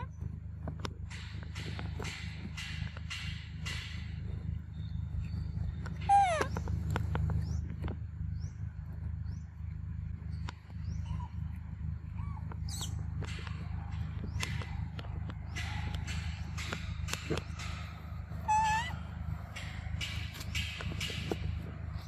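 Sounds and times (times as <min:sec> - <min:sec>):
steady low rumble: 0:00.0 - 0:22.0
scattered clicks: 0:00.2 - 0:08.2, 0:09.6 - 0:22.0.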